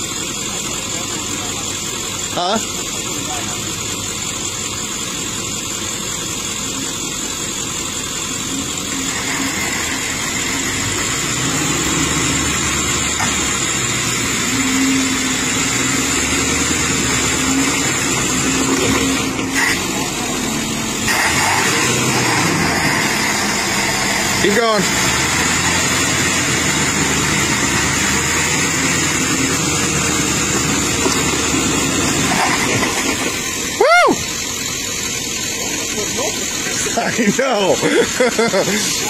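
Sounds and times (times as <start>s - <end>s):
vehicle engines under load: 0.0s - 39.0s.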